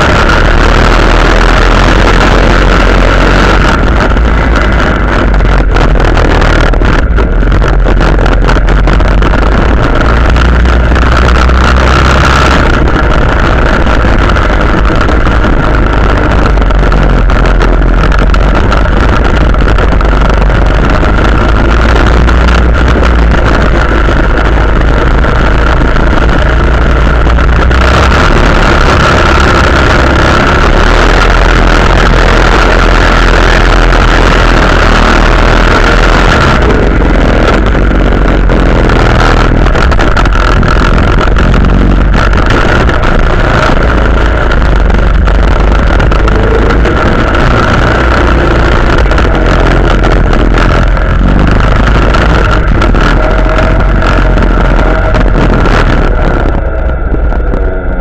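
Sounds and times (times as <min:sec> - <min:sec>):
quad bike engine rumble: 0:00.0 - 0:58.0
wind noise on microphone: 0:00.0 - 0:58.0.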